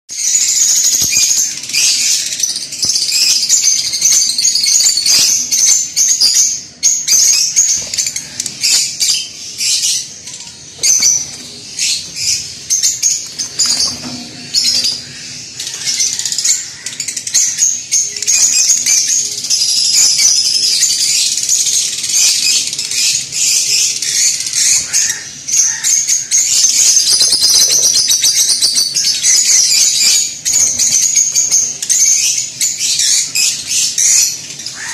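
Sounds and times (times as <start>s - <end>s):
lovebirds chirping and squawking: 0.1s - 34.9s.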